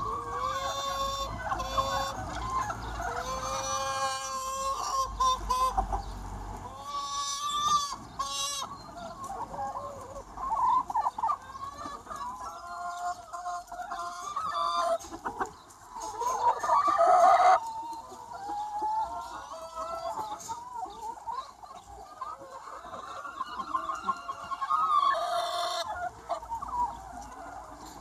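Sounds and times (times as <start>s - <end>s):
chickens clucking: 0.0s - 28.0s
drawn-out chicken call: 0.0s - 28.0s.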